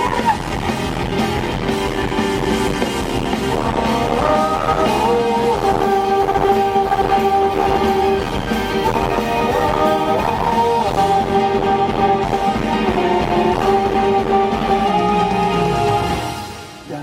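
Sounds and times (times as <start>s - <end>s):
guitar playing held notes: 0.0s - 16.7s
live rock band playing: 0.0s - 16.9s.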